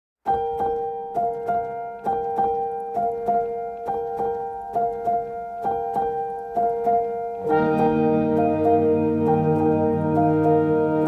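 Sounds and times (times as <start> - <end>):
piano music: 0.2 - 11.0.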